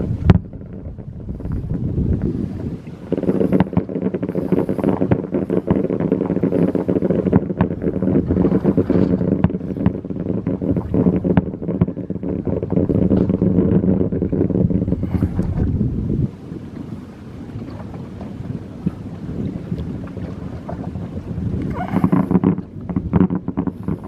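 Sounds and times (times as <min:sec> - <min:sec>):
fireworks bangs and crackling: 0:00.0 - 0:17.6, 0:20.9 - 0:24.0
steady low drone: 0:00.0 - 0:24.0.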